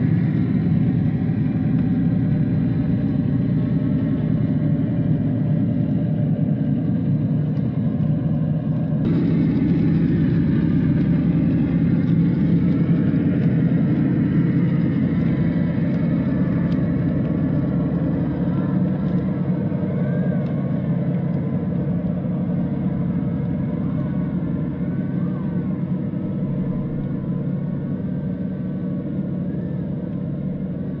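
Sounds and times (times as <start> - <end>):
electric motor and gear whine: 0.0 - 31.0.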